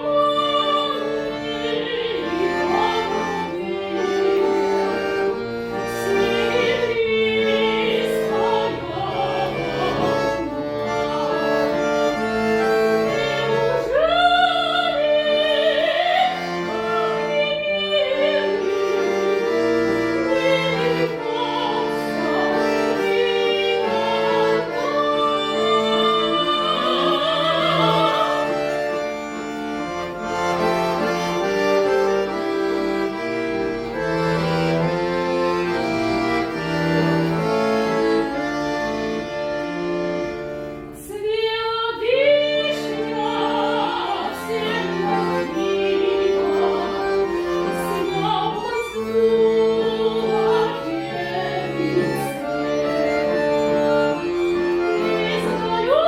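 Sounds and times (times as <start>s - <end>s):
button accordion: 0.0s - 56.0s.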